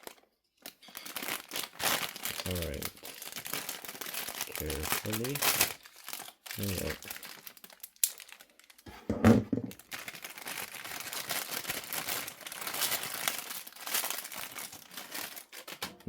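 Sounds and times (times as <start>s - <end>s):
plastic packaging crinkling: 0.0s - 8.9s, 9.6s - 16.0s.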